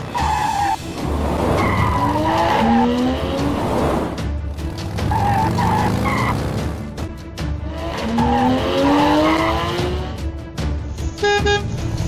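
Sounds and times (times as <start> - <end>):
vehicle engines revving: 0.0 - 10.3
driving background music: 0.0 - 12.0.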